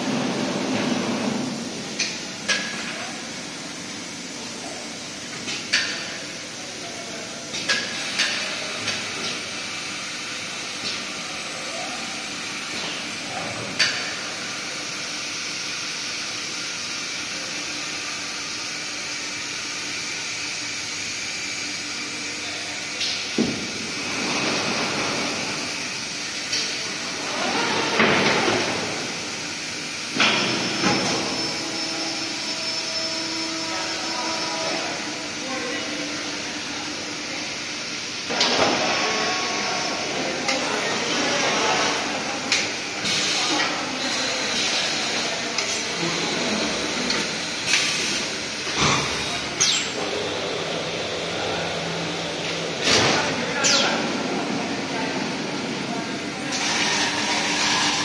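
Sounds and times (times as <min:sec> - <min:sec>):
machinery humming: 0:00.0 - 0:58.0.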